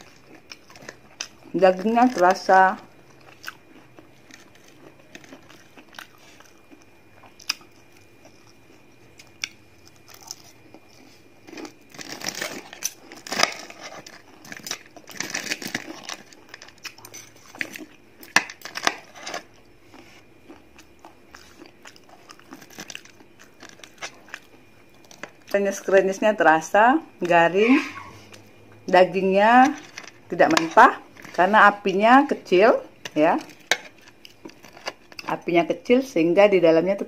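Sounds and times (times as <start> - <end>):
crunching of fried chicken: 0.0 - 25.9, 29.6 - 35.4.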